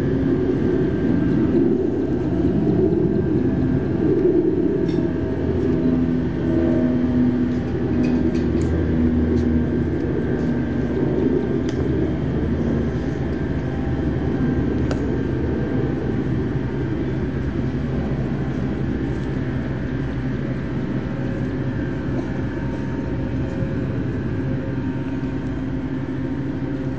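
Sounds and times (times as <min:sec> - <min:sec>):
distant engine rumble: 0:00.0 - 0:26.9
faint humming tones: 0:00.0 - 0:26.9.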